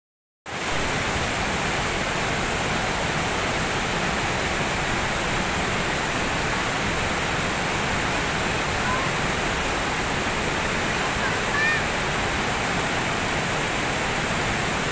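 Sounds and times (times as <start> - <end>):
waterfall rushing: 0.5 - 14.9.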